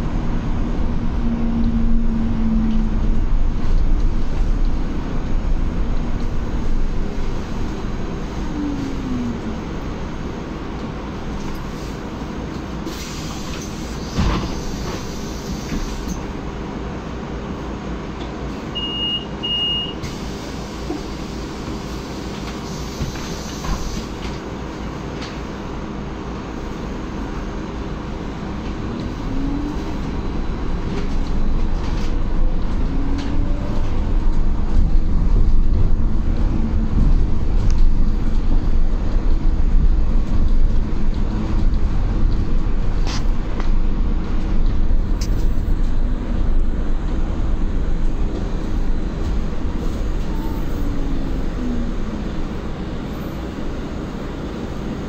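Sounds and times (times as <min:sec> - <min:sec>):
bus cabin rumble: 0:00.0 - 0:55.0.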